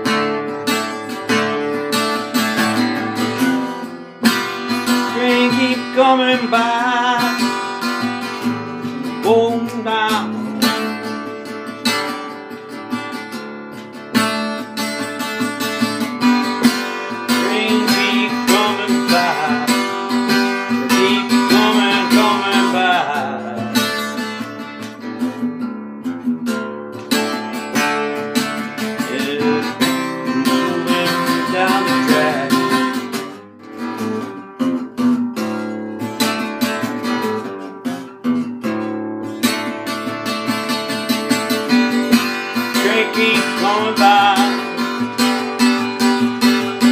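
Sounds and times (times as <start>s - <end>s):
acoustic guitar strummed and picked: 0.0s - 46.9s.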